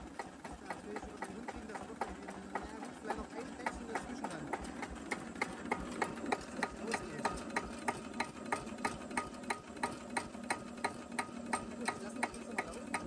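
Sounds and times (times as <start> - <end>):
diesel engine idling and ticking: 0.0 - 13.0.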